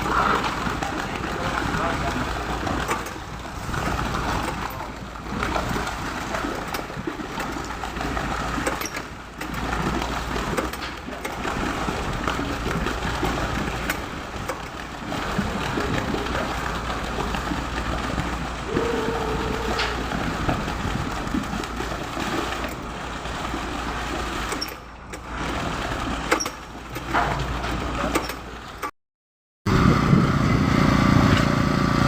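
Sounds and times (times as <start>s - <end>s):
pump truck engine droning: 0.0s - 28.4s, 29.7s - 32.0s.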